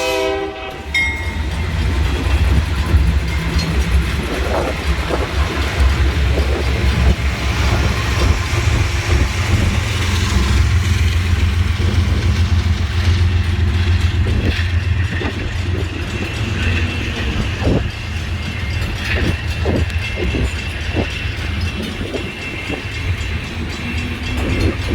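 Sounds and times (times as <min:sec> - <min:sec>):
train rumble: 0:00.0 - 0:24.9
wheels clattering on rails: 0:00.7 - 0:24.9.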